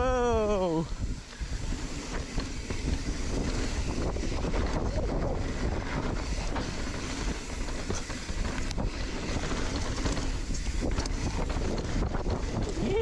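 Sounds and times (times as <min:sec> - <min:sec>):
wind buffeting microphone: 0:00.0 - 0:13.0
sharp clicks and rattles: 0:01.5 - 0:13.0.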